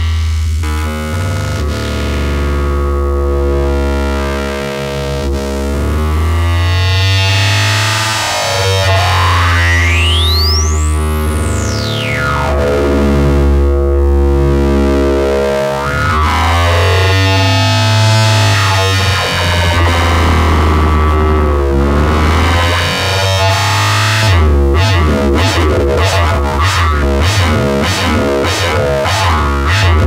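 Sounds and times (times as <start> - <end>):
synthesizer bass drone: 0.0 - 30.0.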